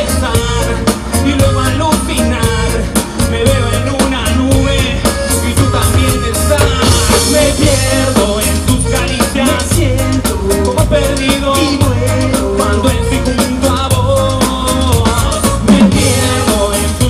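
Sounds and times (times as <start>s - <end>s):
drum kit beat: 0.0s - 17.0s
live band playing latin rock: 0.0s - 17.0s.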